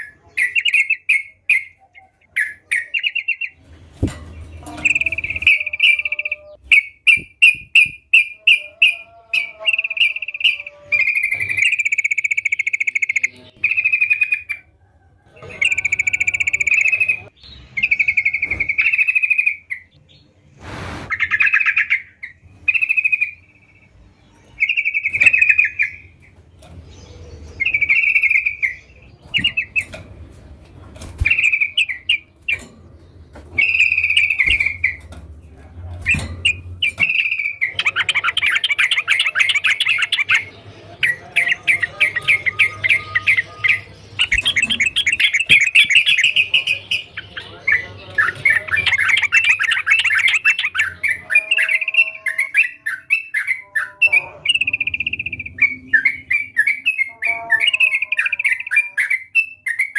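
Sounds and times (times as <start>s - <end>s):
bird singing and chattering: 0.0s - 14.7s, 15.4s - 20.4s, 21.1s - 30.0s, 31.0s - 59.9s.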